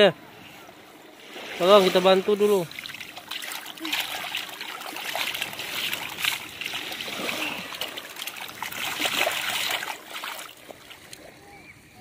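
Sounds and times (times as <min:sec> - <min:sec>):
sea water surging over sand: 0:00.0 - 0:12.0
water splashing around hands: 0:01.3 - 0:11.3.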